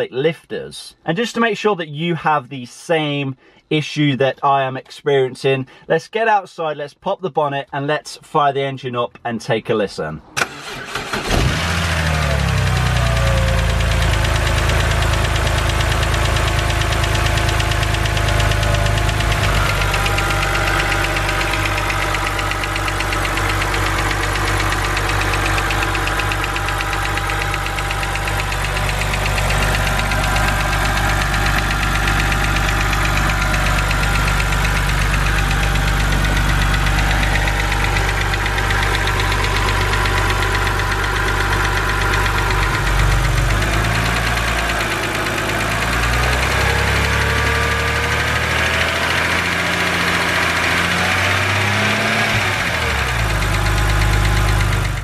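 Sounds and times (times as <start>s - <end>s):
car engine idling: 10.4s - 55.0s
fast ticking from engine: 10.6s - 55.0s.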